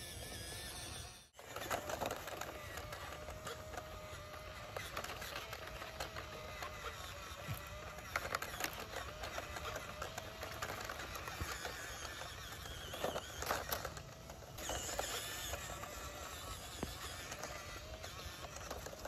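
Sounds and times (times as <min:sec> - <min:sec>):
toy car electric motor whine: 0:00.0 - 0:19.0.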